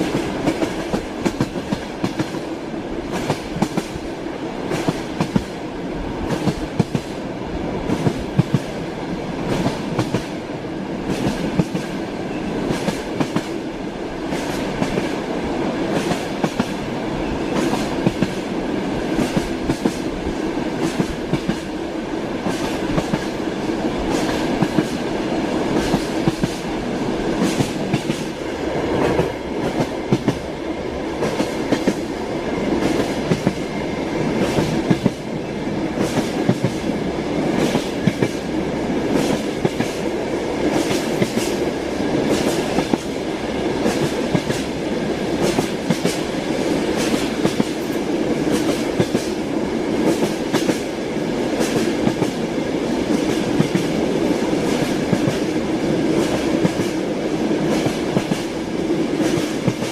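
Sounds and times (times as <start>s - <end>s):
train wheels clattering on rails: 0.0s - 5.6s, 6.2s - 7.2s, 7.8s - 59.9s.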